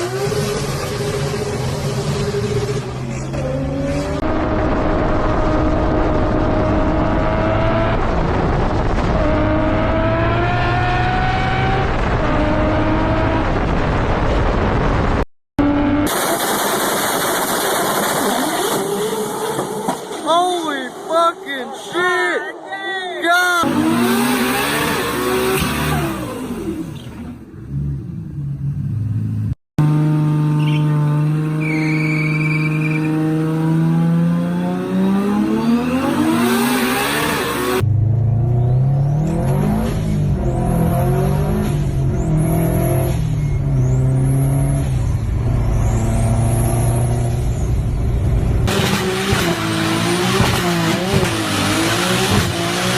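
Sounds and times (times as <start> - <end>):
car engine accelerating hard: 0.0 - 14.2, 23.6 - 52.9.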